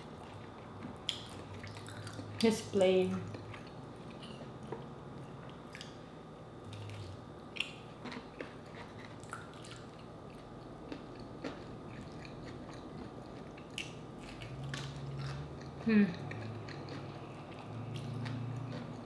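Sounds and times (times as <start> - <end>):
chewing and crunching fried chicken: 0.0 - 6.0, 6.6 - 19.0.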